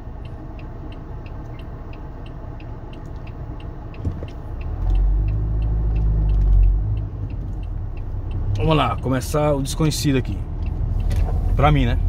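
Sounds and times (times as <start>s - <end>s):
diesel car engine: 0.0s - 12.0s
steady even ticking: 0.0s - 12.0s.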